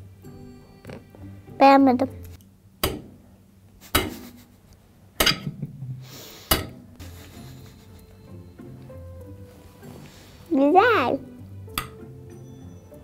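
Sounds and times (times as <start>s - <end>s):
faint background music: 0.0s - 4.2s, 5.2s - 13.0s.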